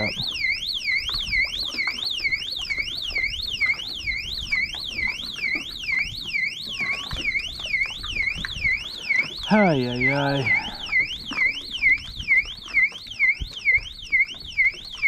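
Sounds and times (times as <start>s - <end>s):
warbling electronic siren: 0.0s - 15.0s.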